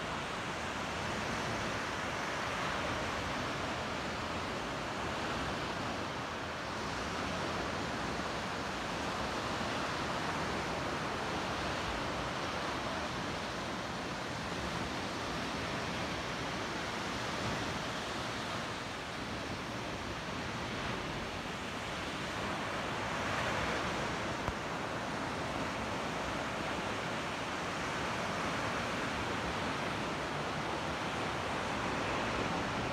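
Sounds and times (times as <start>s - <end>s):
small waves breaking on sand: 0.0s - 32.9s.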